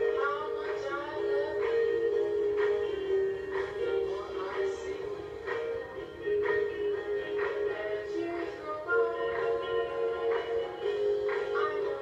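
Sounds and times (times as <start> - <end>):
light beat: 0.0 - 12.0.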